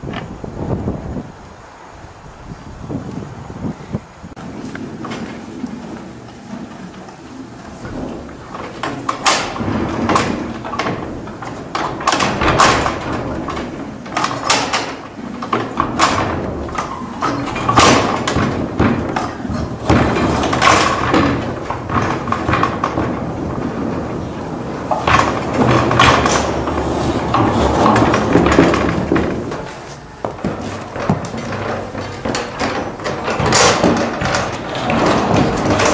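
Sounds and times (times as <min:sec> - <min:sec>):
metal stall door rattling: 0:04.4 - 0:35.9.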